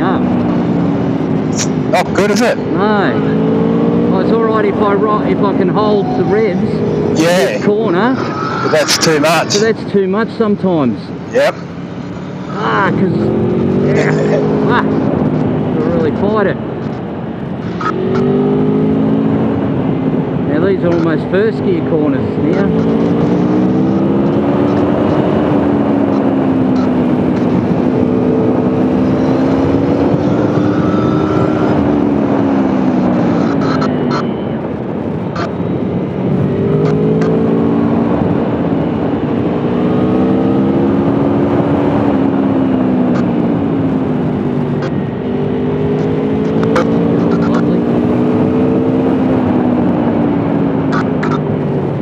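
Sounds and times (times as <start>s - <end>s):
motorcycle engine revving: 0.0s - 52.0s
wind rush on microphone: 0.0s - 52.0s.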